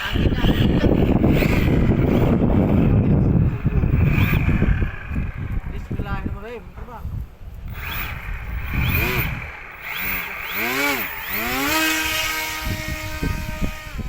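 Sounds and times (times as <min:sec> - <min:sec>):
model jet motor whining: 0:00.0 - 0:06.4, 0:07.7 - 0:14.0
wind rumbling on microphone: 0:00.0 - 0:14.0.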